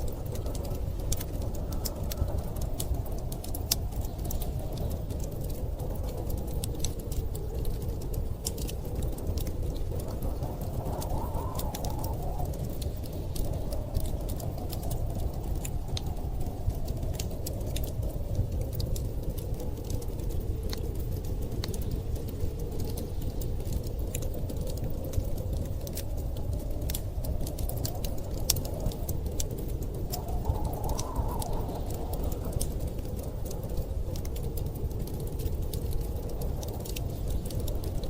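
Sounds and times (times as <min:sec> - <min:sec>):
howling storm wind: 0:00.0 - 0:38.0
wood fire crackling and popping: 0:00.0 - 0:38.0.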